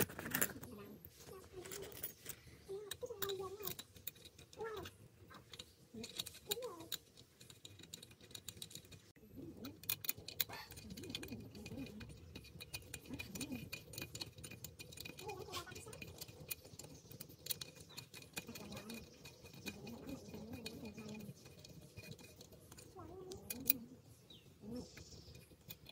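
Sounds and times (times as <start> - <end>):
hex key and metal parts clicking: 1.4 - 25.9.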